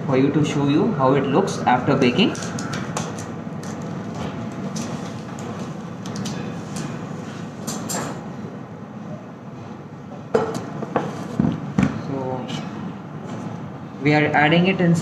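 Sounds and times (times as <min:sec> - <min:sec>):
continuous rumble and hiss: 0:00.0 - 0:15.0.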